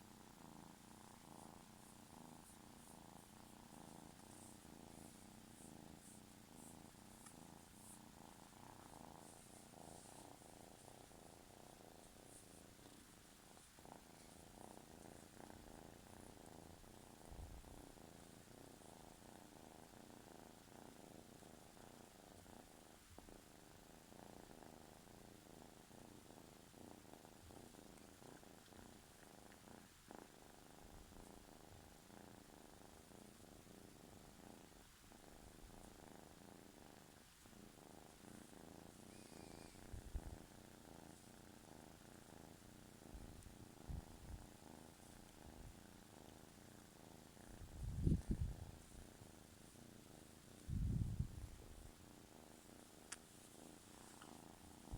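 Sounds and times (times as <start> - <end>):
kitten purring: 0.0 - 54.9.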